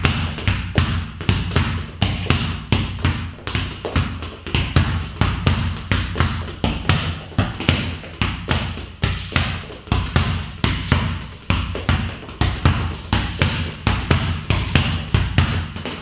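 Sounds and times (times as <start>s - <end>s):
football kicked against a wall: 0.0s - 16.0s.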